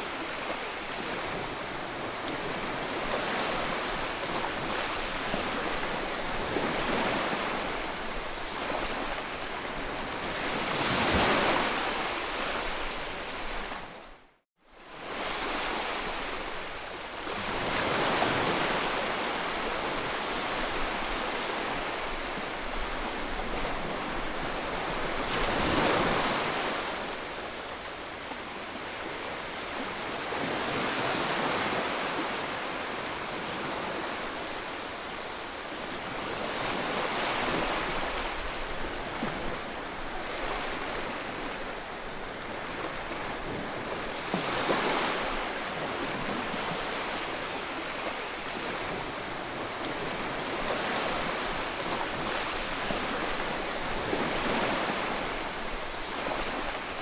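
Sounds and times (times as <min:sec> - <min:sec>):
ocean waves breaking ashore: 0:00.0 - 0:14.2, 0:14.9 - 0:57.0.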